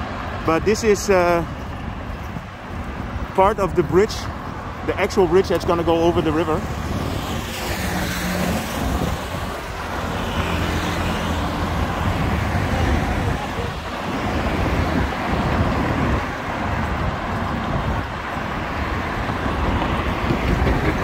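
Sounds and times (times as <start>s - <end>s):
vehicle engines passing: 0.0s - 21.0s
wind rumble on microphone: 0.0s - 21.0s.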